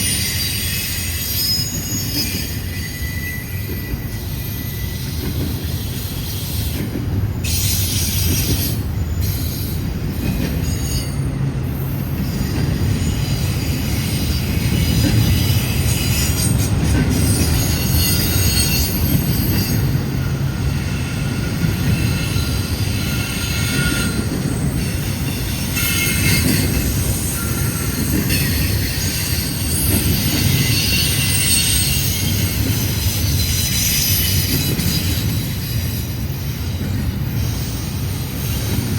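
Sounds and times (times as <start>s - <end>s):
high-pitched wheel squeal: 0.0s - 6.8s, 12.3s - 38.7s
freight train rumbling on rails: 0.0s - 38.9s.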